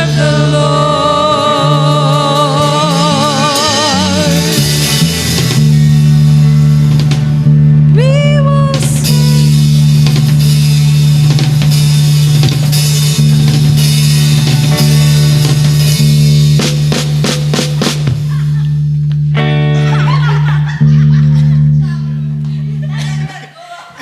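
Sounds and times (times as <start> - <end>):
drum kit: 0.0 - 23.0
held low bass note: 0.0 - 23.0
electric guitar: 0.0 - 23.4.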